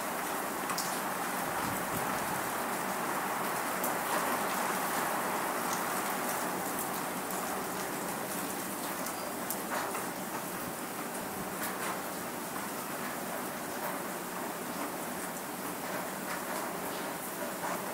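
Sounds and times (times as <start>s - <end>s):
rain hissing steadily: 0.0s - 17.9s.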